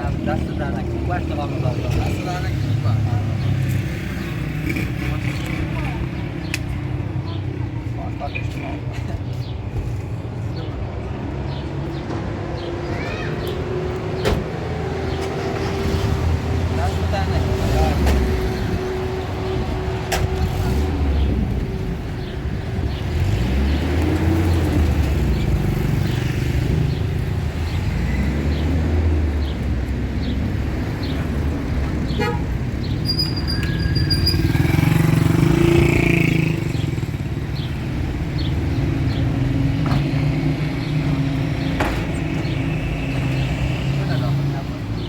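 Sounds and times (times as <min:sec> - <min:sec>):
motor vehicle running: 0:00.0 - 0:45.0
traffic noise: 0:00.0 - 0:45.0.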